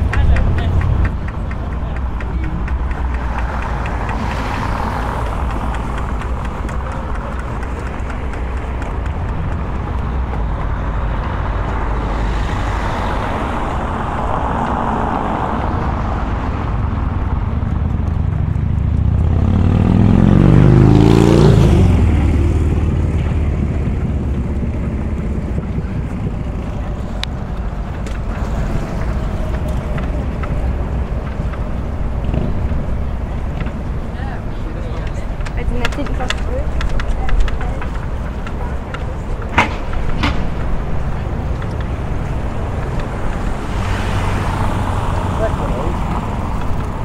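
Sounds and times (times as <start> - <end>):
street traffic rumble: 0.0 - 47.0
vehicle passing close: 0.0 - 47.0.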